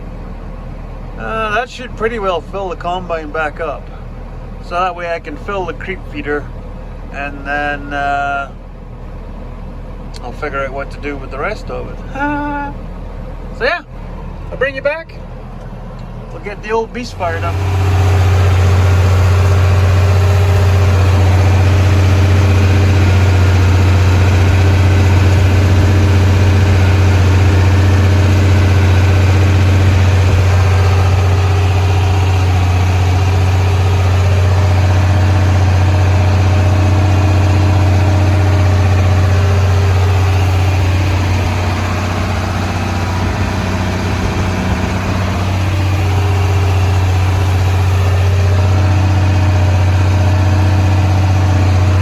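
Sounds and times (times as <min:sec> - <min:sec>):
farm machine engine humming: 0:00.0 - 0:52.0.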